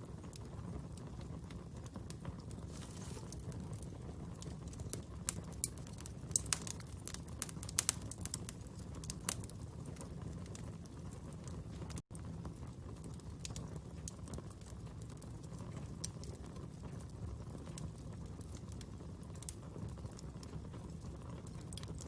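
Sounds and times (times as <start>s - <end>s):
sharp fire pops: 0.0s - 22.0s
wood fire crackling: 0.0s - 22.0s.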